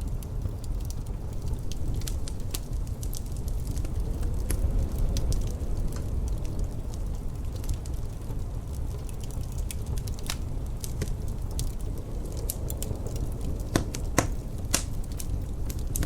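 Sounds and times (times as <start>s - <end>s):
low rumble of blizzard wind: 0.0s - 16.0s
wood fire crackling and popping: 0.0s - 16.0s.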